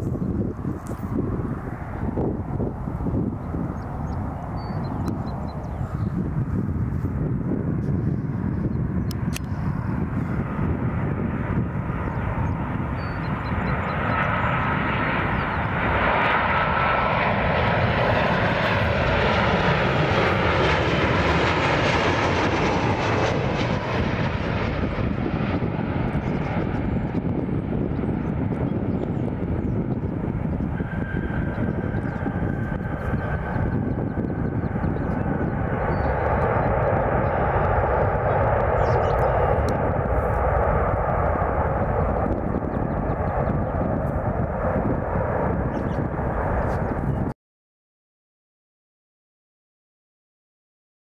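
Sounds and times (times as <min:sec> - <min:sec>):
jet engines whining: 0:00.0 - 0:47.3.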